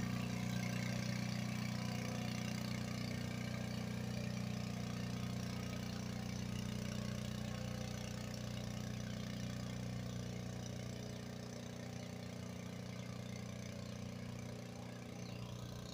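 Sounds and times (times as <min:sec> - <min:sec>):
truck engine running steadily: 0:00.0 - 0:15.9.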